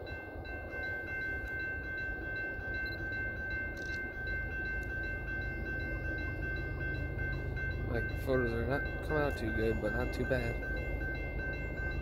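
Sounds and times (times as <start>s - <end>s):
distant freight train rumble: 0.0s - 12.0s
high ringing tones: 0.0s - 12.0s.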